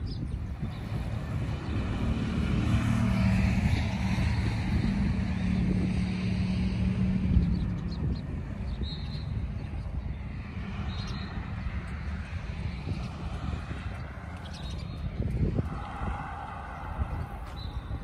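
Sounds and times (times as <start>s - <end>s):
wind rumble on microphone: 0.0s - 18.0s
passing engine drone: 0.4s - 18.0s.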